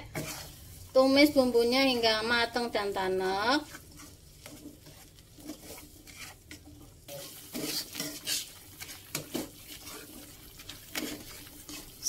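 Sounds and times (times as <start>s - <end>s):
spatula scraping metal wok: 0.0s - 0.7s, 2.6s - 12.0s.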